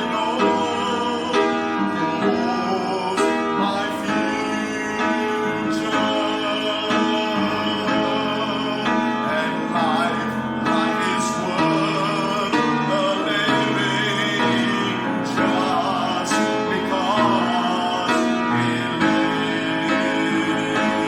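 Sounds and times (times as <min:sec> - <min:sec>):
instrumental worship music: 0:00.0 - 0:21.0.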